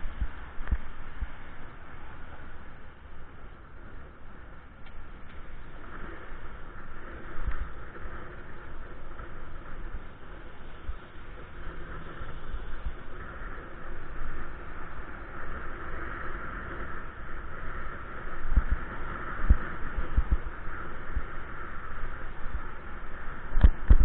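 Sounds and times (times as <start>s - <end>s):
road and wind noise: 0.0s - 24.0s
wind buffeting microphone: 0.0s - 24.0s.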